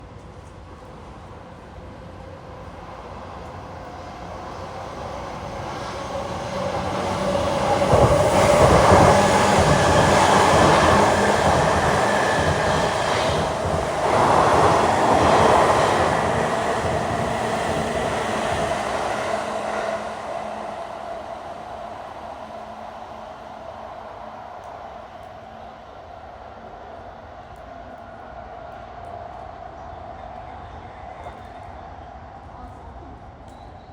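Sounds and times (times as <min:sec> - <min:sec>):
train passing at speed: 0:00.0 - 0:33.9.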